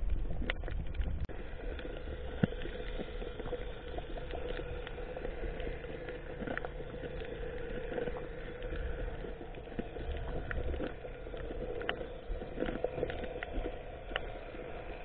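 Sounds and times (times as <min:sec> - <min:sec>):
boat engine hum underwater: 0:00.0 - 0:15.0
small clicks and crackles: 0:00.0 - 0:15.0.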